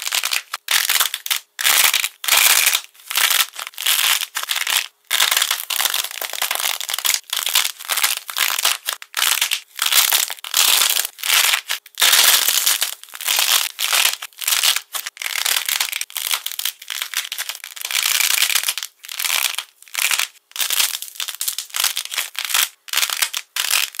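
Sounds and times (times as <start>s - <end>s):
clay shell crackling: 0.0s - 24.0s.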